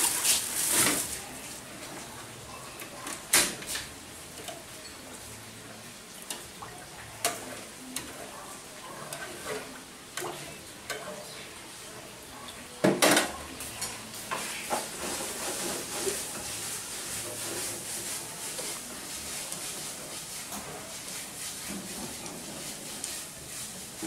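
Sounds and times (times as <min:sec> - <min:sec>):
frying sizzle: 0:00.0 - 0:24.0.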